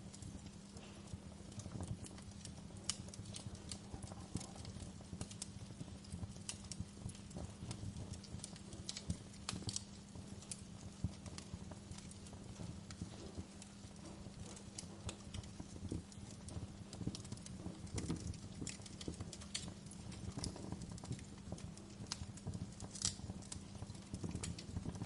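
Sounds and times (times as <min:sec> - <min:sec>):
fire crackling and popping: 0:00.0 - 0:25.0
low rumble of flame: 0:00.0 - 0:25.0.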